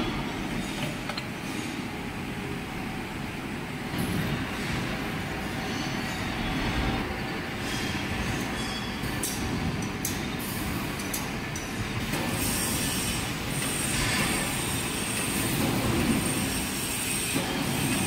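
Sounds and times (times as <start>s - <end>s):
heavy workshop machinery running: 0.0s - 18.0s.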